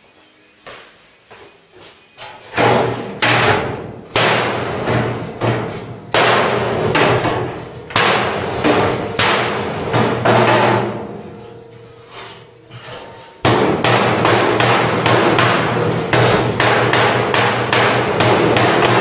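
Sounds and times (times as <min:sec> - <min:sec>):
hammer striking steel panel: 0:02.4 - 0:19.0.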